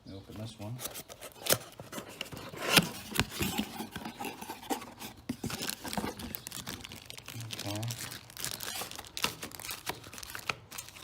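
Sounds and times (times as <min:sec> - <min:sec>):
packaging rustling and scraping: 0:00.4 - 0:11.0.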